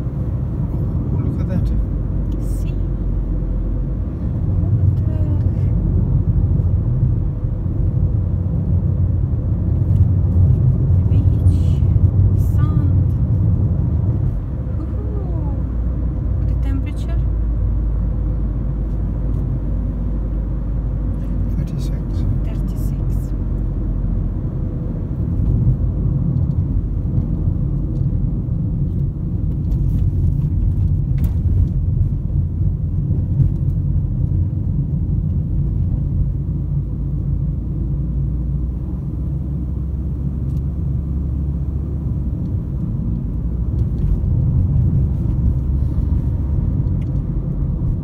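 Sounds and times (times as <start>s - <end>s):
car interior rumble: 0.0s - 48.0s.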